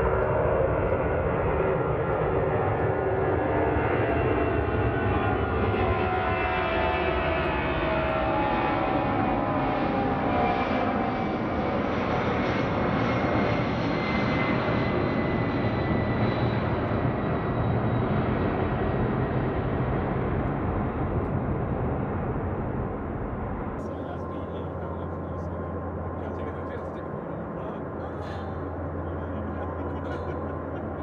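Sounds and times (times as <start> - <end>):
jet engines roaring with whine: 0.0 - 31.0.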